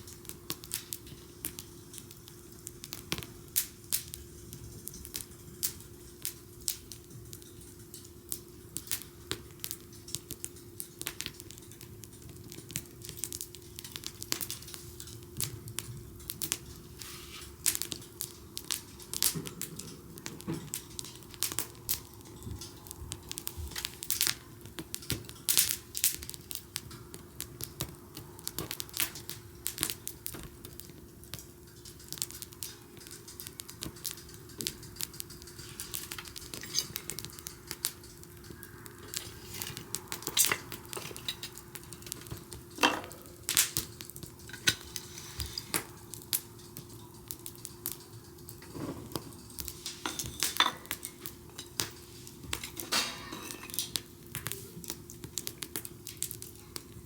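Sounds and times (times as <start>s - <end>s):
sharp snaps and pops: 0.0s - 52.8s, 53.8s - 57.0s
wood bonfire crackling: 0.0s - 57.0s.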